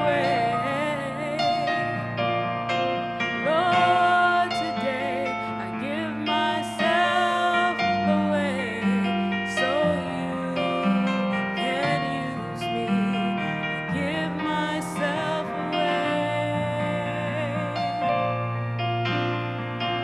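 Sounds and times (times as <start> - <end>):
gentle piano church music: 0.0 - 20.0.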